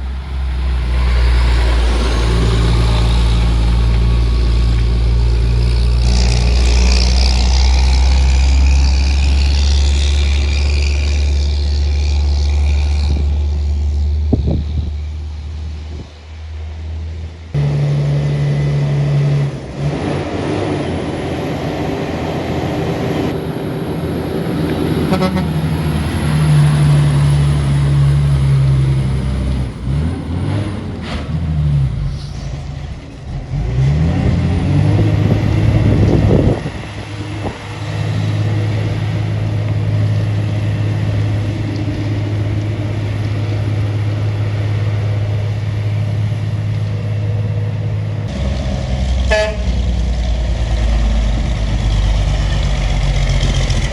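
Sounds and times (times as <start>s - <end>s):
truck diesel engine pulling hard: 0.0s - 53.9s.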